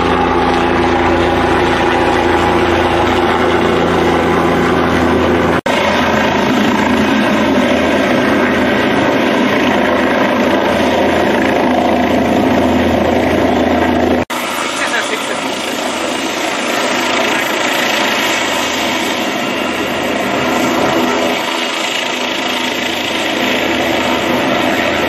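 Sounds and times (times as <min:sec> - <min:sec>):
helicopter rotor and turbine: 0:00.0 - 0:25.0.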